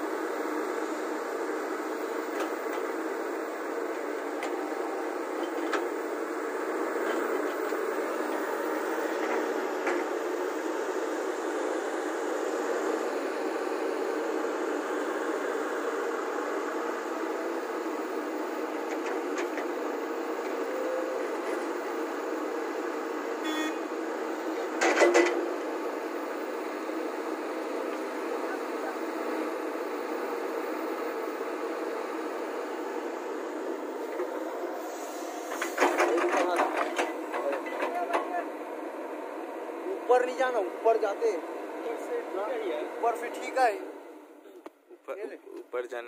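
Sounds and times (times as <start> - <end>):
excavator diesel engine running: 0.0 - 44.6.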